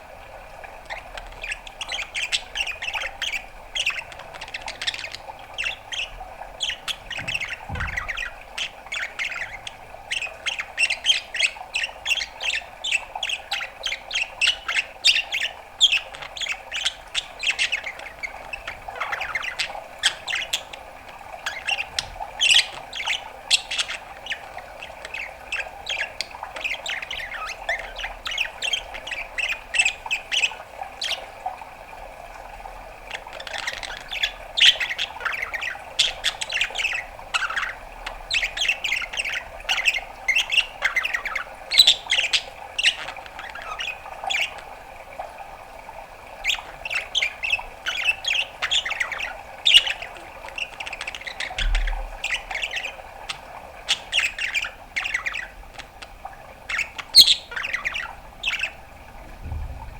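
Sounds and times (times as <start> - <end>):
budgerigar chirping and squawking: 0.9 - 31.3, 33.1 - 44.8, 46.4 - 58.8.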